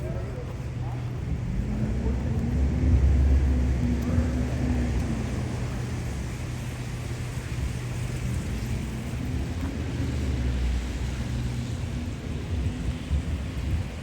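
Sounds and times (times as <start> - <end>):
vehicle engine: 0.0 - 13.2
low rumble of street traffic: 0.0 - 14.0.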